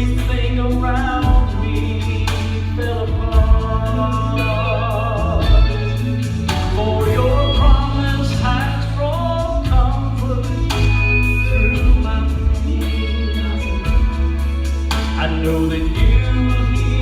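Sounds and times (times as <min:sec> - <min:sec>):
vocal quartet singing gospel: 0:00.0 - 0:17.0.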